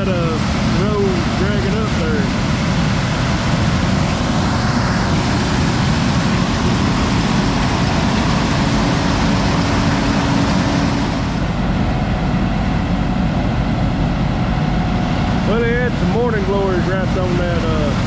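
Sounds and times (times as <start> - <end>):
farm machinery engine droning: 0.0 - 18.0.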